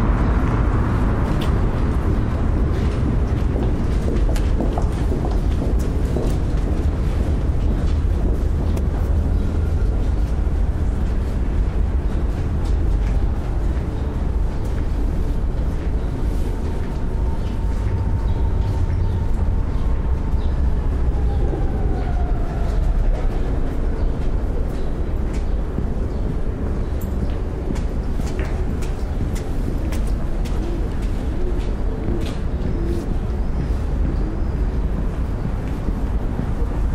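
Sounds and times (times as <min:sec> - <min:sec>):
train rumble: 0:00.0 - 0:36.9.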